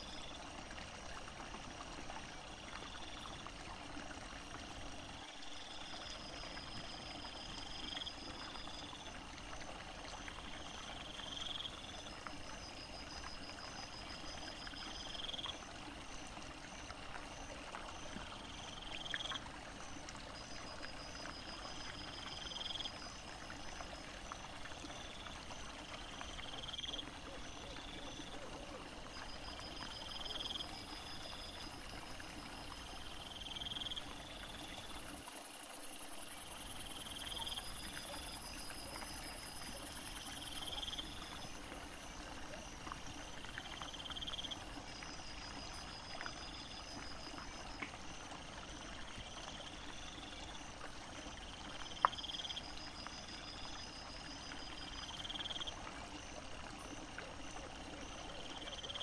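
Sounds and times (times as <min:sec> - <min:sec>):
faint steady hiss: 0:00.0 - 0:59.0
insects chirping: 0:02.3 - 0:59.0.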